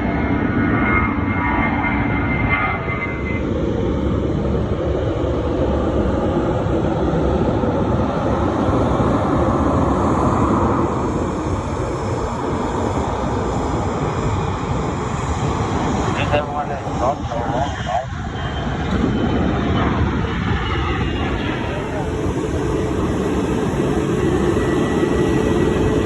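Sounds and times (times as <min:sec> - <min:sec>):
jet airliner engines roaring: 0:00.0 - 0:26.0.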